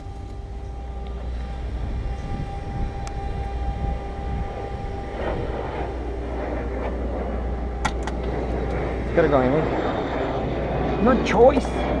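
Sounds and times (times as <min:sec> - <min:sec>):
low rumble: 0:00.0 - 0:12.0
mechanical hum: 0:00.0 - 0:12.0.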